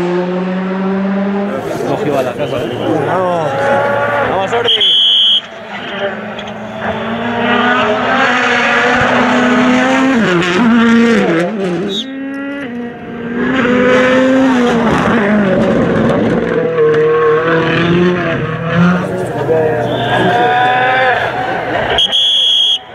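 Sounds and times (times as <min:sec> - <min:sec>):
rally car engine revving: 0:00.0 - 0:22.8.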